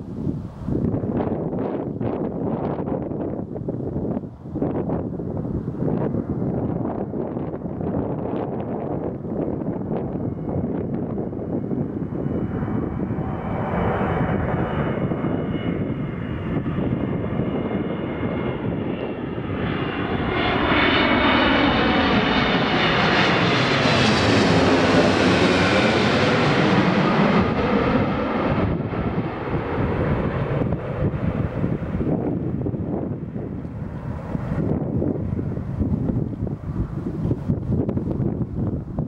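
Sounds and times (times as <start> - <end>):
jet engines passing overhead: 0.0 - 39.0.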